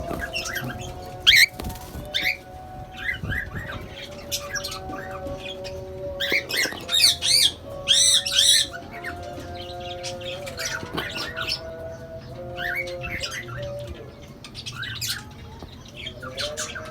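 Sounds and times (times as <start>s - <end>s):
cockatiels chirping and calling: 0.0s - 16.9s.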